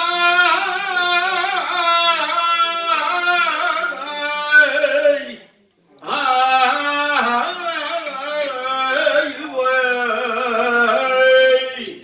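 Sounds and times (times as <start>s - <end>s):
man singing a slow chant: 0.0s - 12.0s.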